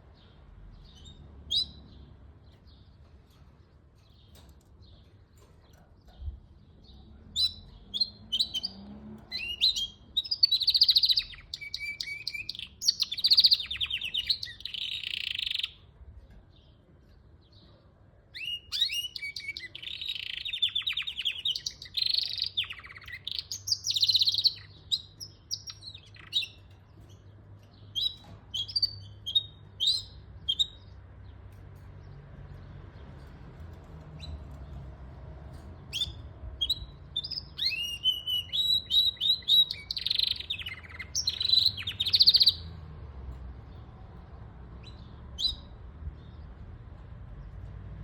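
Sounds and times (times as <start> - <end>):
canary trills and chirps: 0.0 - 48.0.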